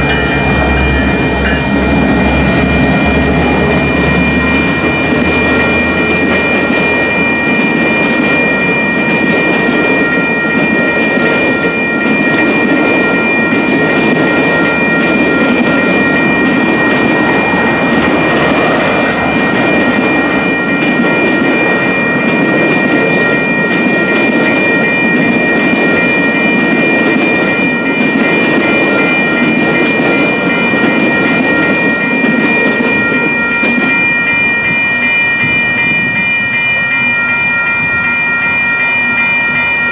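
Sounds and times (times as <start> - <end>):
crossing bell ringing: 0.0 - 39.9
train wheels clattering on rails: 0.0 - 39.9.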